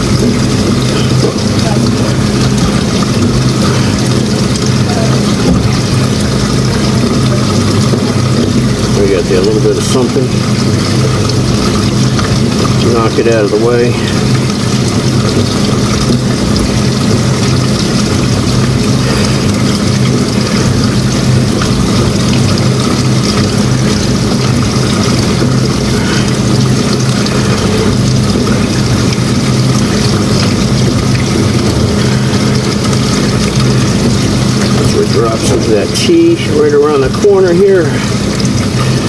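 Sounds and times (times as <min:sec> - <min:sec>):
machine motor humming: 0:00.0 - 0:39.0.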